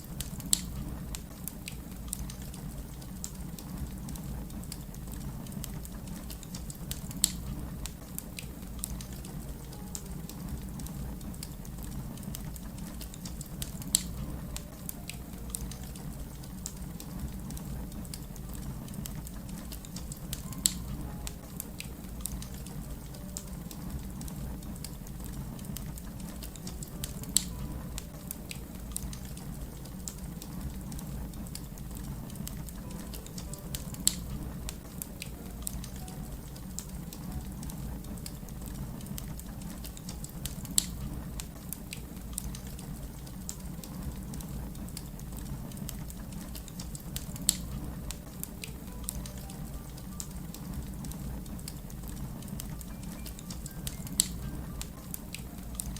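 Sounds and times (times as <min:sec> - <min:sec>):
wood fire crackling: 0:00.0 - 0:55.9
sharp pops of fire: 0:00.2 - 0:36.1, 0:38.0 - 0:49.4.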